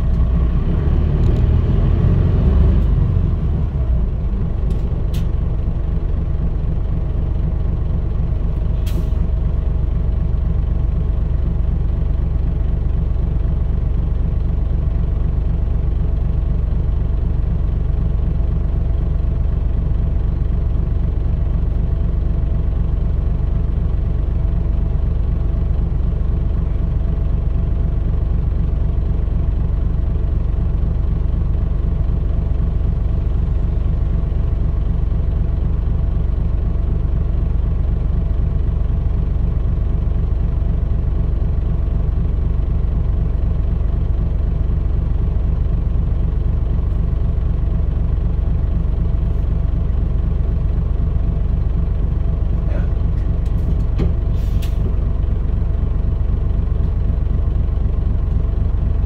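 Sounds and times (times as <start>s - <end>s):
bus engine running: 0.0s - 59.0s.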